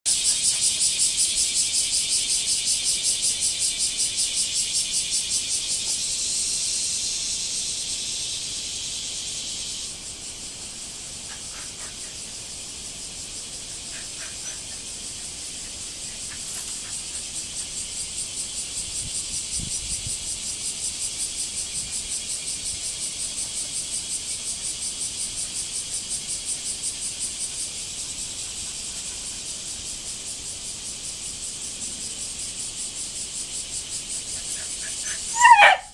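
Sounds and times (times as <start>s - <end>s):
cicadas buzzing: 0.1s - 35.9s.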